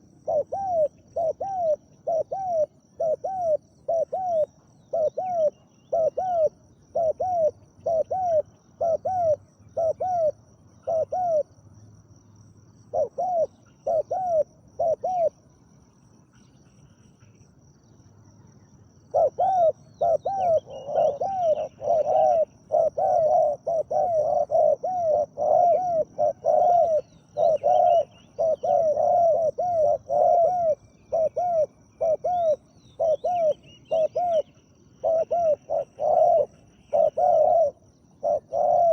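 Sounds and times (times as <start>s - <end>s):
doves cooing: 0.0s - 11.6s, 12.9s - 15.5s, 19.0s - 38.9s.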